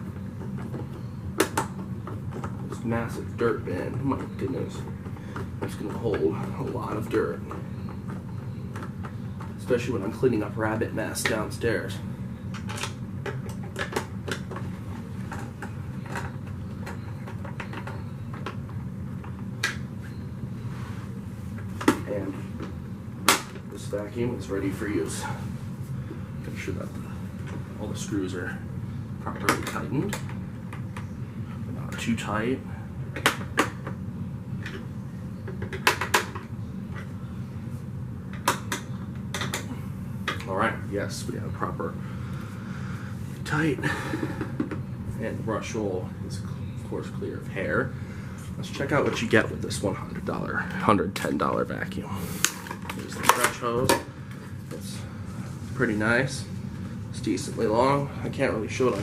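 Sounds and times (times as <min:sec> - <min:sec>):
low steady background hum: 0:00.0 - 0:59.0.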